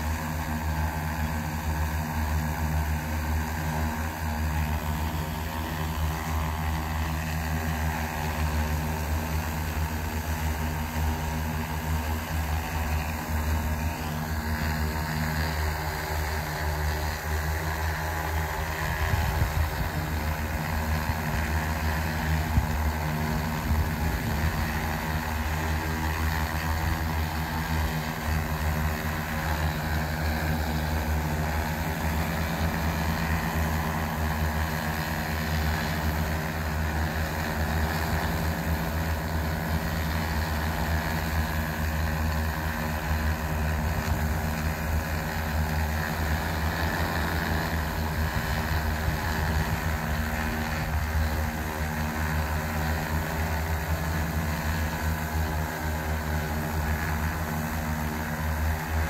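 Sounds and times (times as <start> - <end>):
drone propellers hovering: 0.0 - 59.0.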